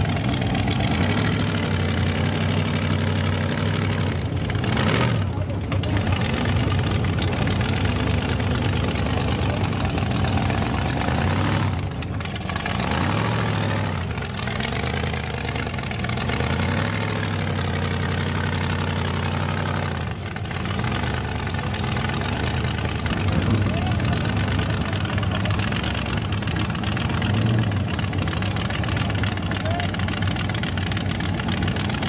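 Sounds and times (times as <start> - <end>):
drag race engines idling: 0.0 - 32.0.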